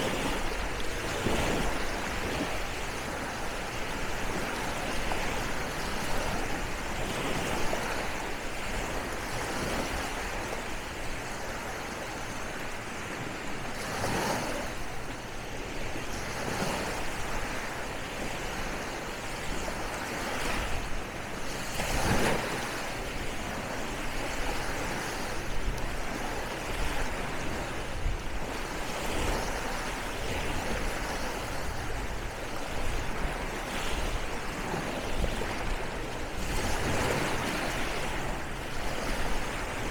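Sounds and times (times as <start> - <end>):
small waves washing on sand: 0.0 - 39.9.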